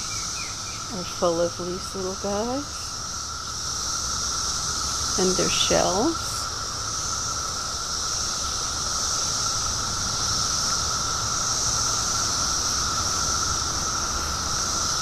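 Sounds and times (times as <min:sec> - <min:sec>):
cicadas droning: 0:00.0 - 0:15.0.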